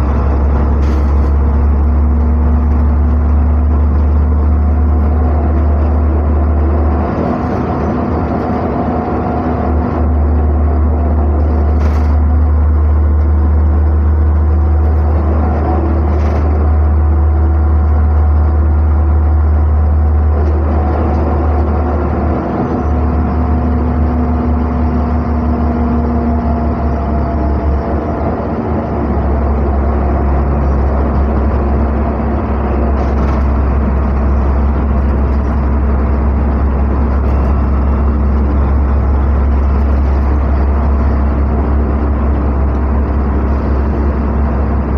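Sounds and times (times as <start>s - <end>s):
bus engine and road rumble: 0.0s - 44.9s.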